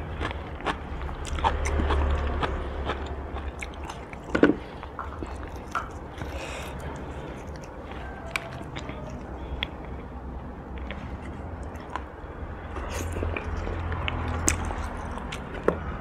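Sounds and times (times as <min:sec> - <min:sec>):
chewing and mouth clicks: 0:00.0 - 0:16.0.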